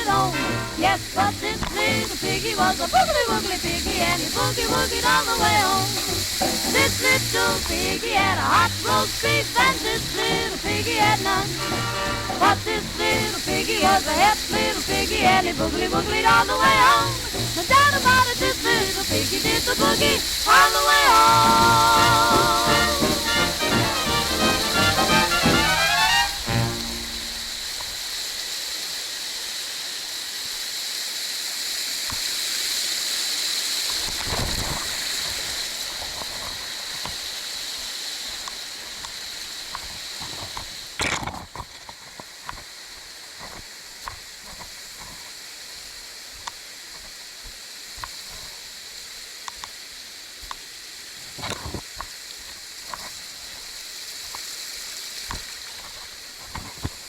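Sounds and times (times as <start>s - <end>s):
stream and waterfall rushing: 0.0s - 57.0s.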